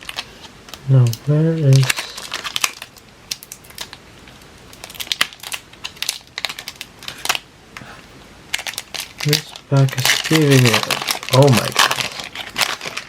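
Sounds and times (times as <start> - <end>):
cards being sorted: 0.0 - 4.0, 4.7 - 13.0
foil wrapper crinkling: 0.0 - 13.0.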